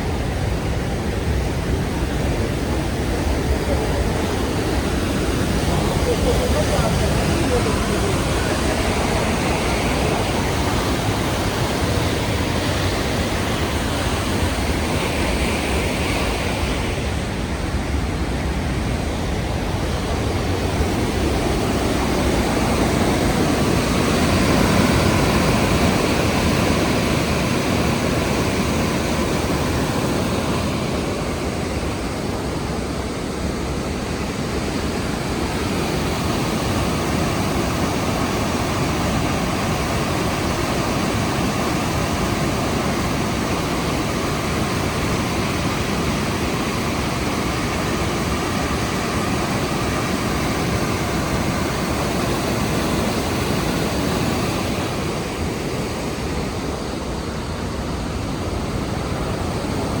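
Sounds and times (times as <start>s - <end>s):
waterfall roaring: 0.0s - 60.0s.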